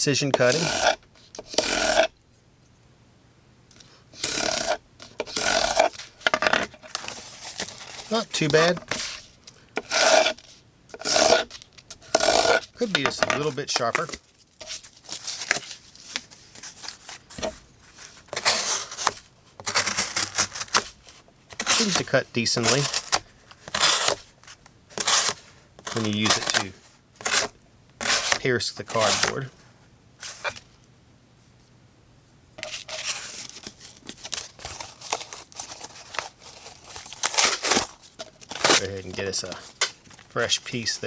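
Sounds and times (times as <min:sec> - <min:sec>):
knife cutting cardboard: 0:00.4 - 0:02.1, 0:04.1 - 0:29.5, 0:32.6 - 0:41.0.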